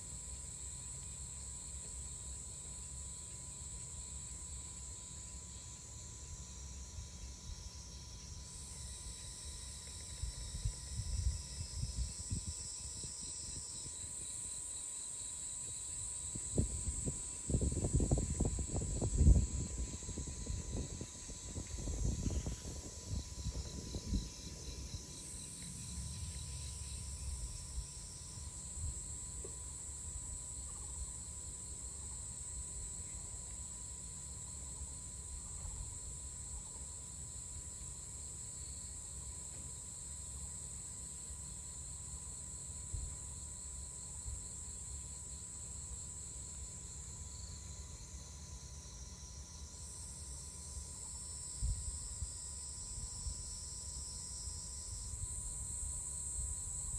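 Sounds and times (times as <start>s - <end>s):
insect chorus trilling: 0.0s - 56.9s.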